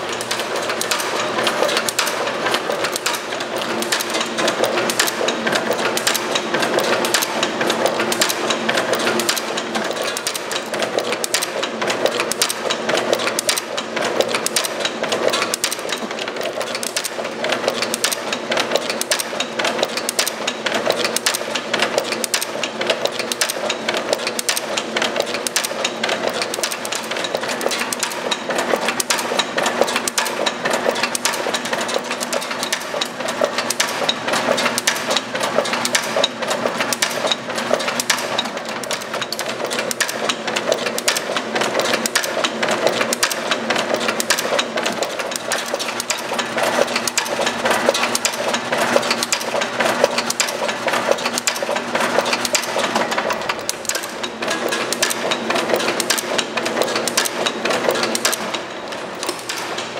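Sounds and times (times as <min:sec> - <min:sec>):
machine mechanism clattering clicks: 0:00.0 - 0:59.9.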